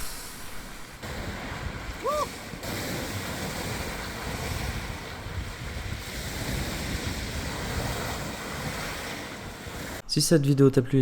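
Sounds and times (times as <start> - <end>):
water washing: 0.0 - 10.0
wind buffeting microphone: 0.6 - 10.0.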